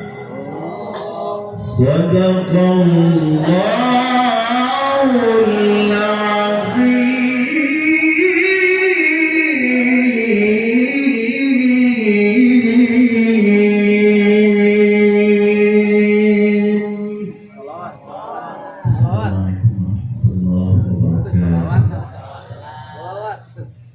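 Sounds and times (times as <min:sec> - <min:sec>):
man chanting recitation: 0:01.4 - 0:23.9.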